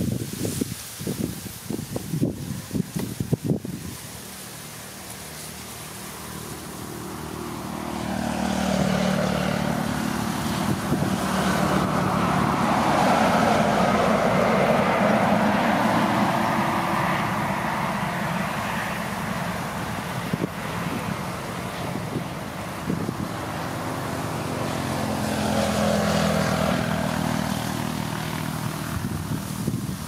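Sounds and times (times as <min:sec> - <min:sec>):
distant engine drone: 0:02.3 - 0:30.0.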